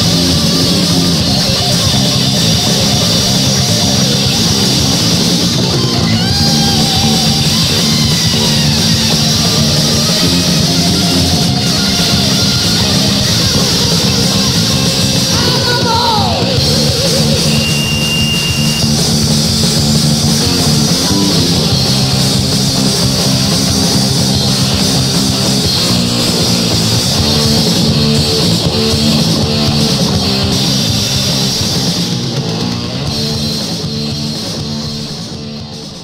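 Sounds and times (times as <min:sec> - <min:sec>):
bass and drums: 0:00.0 - 0:36.0
distorted electric guitars: 0:00.0 - 0:36.0.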